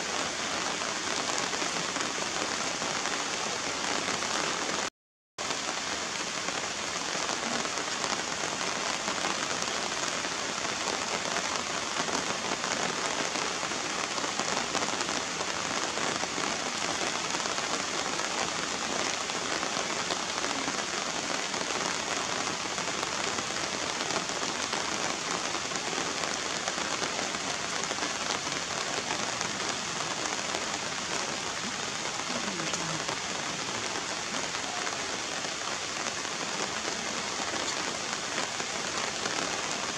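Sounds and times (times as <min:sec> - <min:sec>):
rain falling on puddles: 0:00.0 - 0:39.9.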